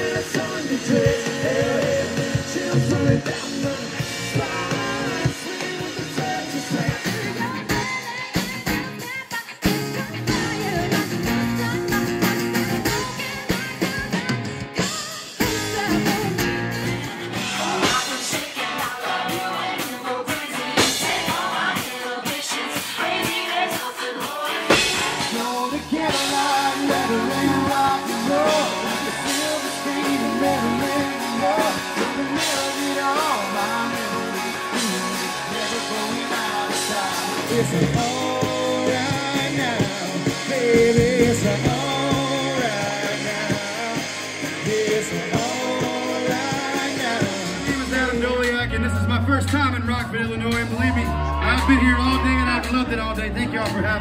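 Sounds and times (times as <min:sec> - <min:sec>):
drums: 0:00.0 - 0:54.0
electric guitar: 0:00.0 - 0:54.0
rock song with singer: 0:00.0 - 0:54.0.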